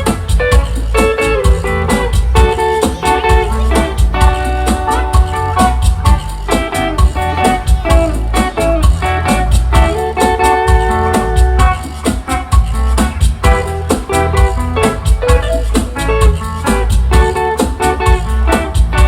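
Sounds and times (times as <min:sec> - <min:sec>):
bass: 0:00.0 - 0:19.0
guitar melody: 0:00.0 - 0:19.0
live band instrumental: 0:00.0 - 0:19.0
steady drum beat: 0:00.0 - 0:19.0.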